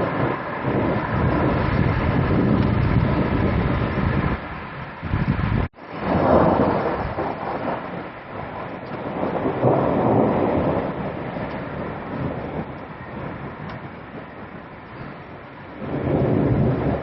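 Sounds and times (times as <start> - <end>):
deep rumbling noise: 0.0 - 17.0.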